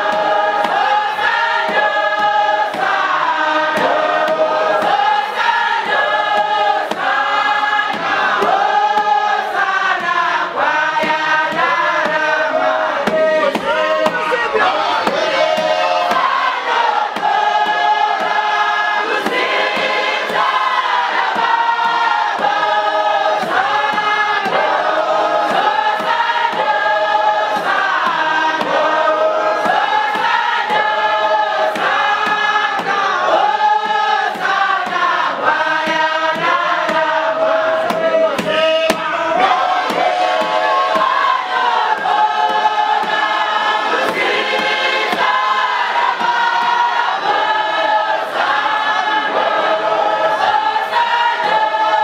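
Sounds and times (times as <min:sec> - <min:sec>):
congregation singing: 0:00.0 - 0:52.0.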